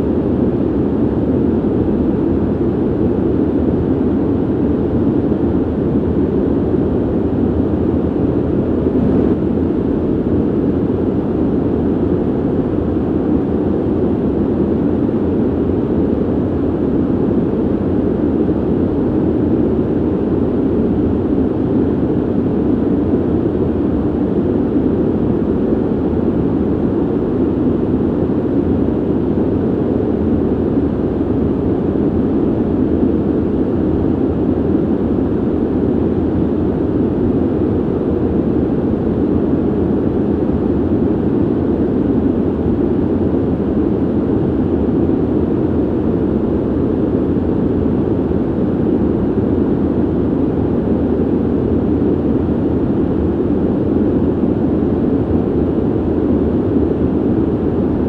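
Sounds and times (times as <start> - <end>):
ventilation air rushing: 0.0 - 58.0.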